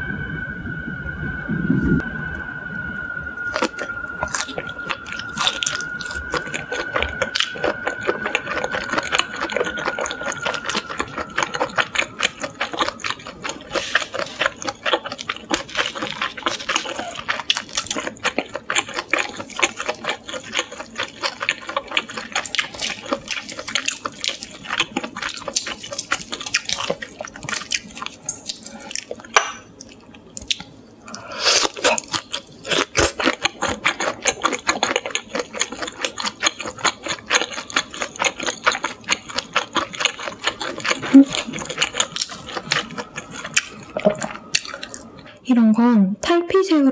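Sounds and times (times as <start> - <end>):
wet chewing mouth sounds: 3.5 - 45.4.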